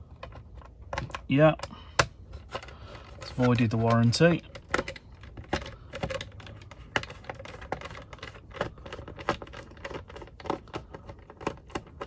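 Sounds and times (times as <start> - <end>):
screwdriver clicking and scraping: 0.2 - 12.0.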